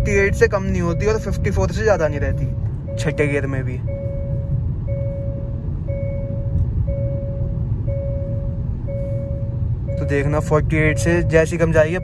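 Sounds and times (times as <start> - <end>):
car engine and tyres droning: 0.0 - 12.0
seat-belt reminder chime beeping: 0.0 - 12.0.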